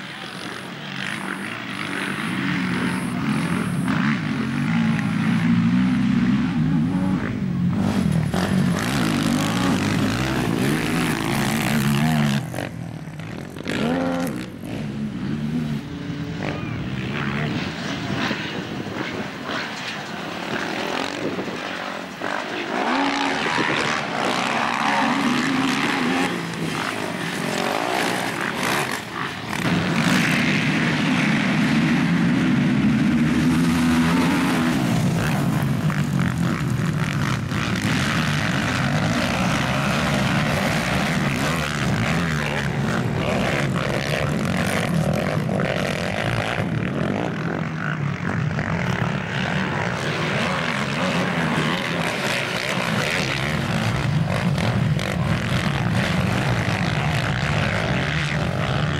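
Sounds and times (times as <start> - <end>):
quad bikes revving past: 0.0 - 58.9.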